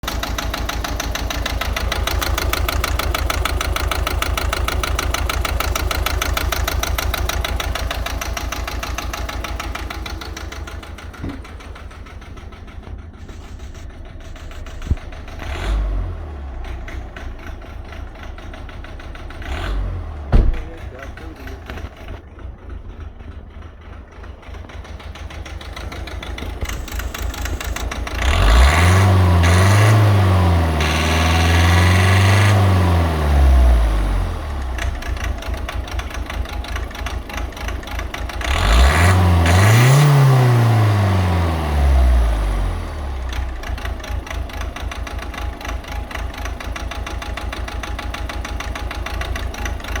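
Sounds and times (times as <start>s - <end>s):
diesel engine idling with knocking: 0.0s - 50.0s.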